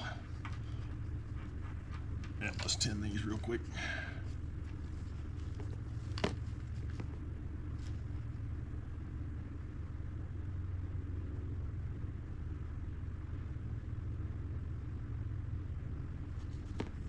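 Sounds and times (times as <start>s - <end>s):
low room noise rumble: 0.0s - 17.0s.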